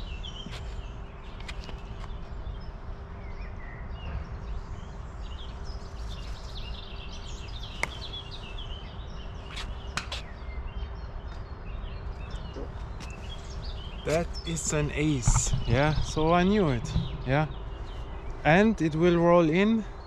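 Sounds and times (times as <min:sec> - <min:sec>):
wind rumble on microphone: 0:00.0 - 0:18.8
songbirds chirping: 0:00.0 - 0:20.0.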